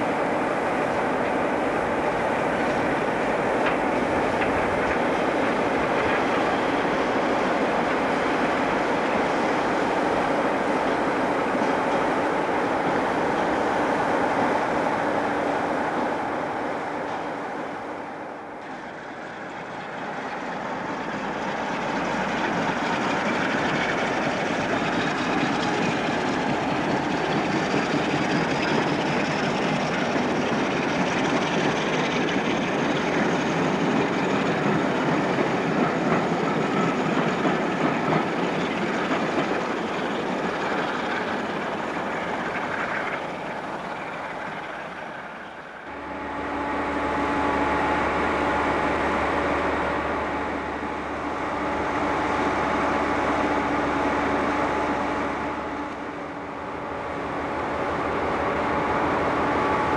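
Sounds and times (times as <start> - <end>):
diesel train passing through: 0.0 - 59.9.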